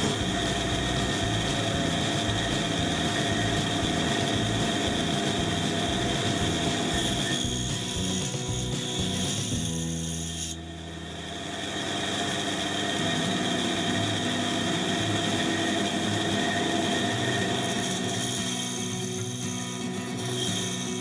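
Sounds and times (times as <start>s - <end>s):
band saw cutting wood: 0.0s - 11.1s, 14.8s - 21.0s.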